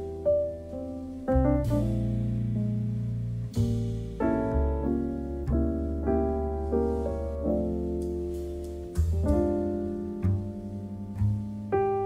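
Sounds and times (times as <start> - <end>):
low held bass: 0.0 - 12.0
slow piano melody: 0.0 - 12.0.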